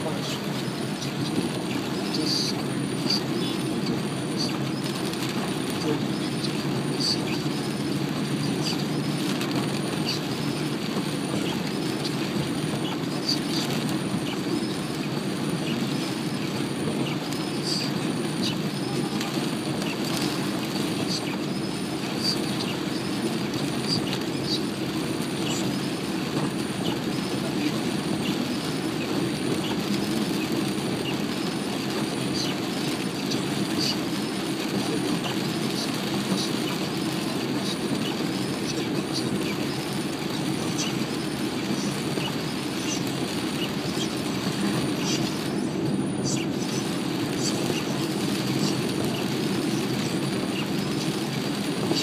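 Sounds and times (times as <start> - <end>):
rain on car roof: 0.0 - 52.0
road and engine noise: 0.0 - 52.0.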